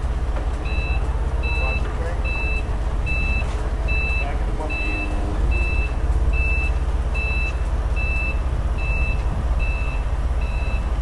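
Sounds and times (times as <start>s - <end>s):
engine rumble: 0.0s - 11.0s
forklift backup alarm beeping: 0.6s - 11.0s.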